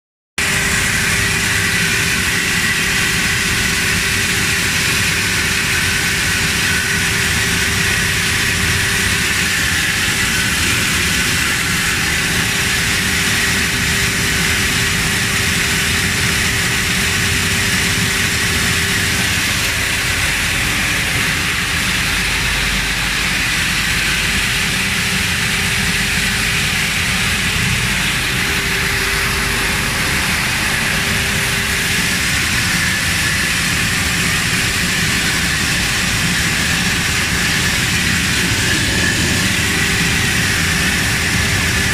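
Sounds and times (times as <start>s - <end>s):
bean peeling machine running: 0.4s - 41.9s.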